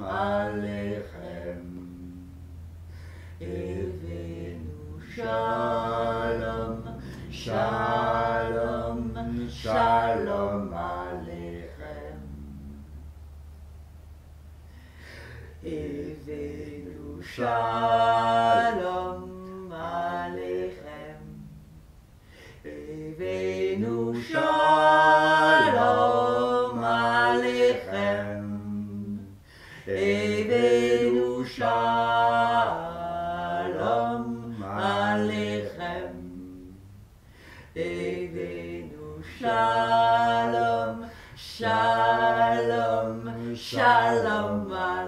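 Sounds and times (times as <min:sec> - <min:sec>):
person singing unaccompanied: 0:00.0 - 0:13.1, 0:15.2 - 0:37.0, 0:37.6 - 0:45.0.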